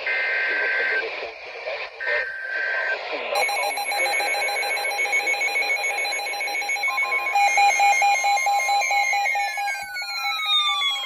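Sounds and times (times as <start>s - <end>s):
loud steady electronic tone: 0.0s - 11.0s
rapidly pulsing beeps: 2.0s - 11.0s.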